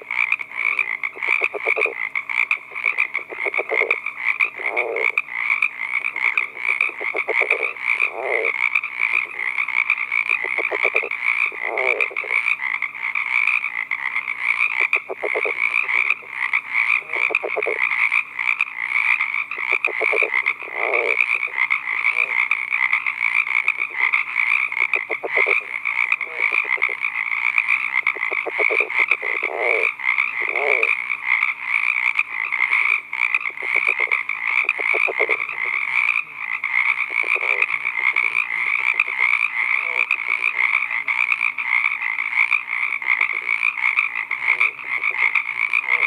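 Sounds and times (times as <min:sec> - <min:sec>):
frog calling: 0:00.0 - 0:46.0.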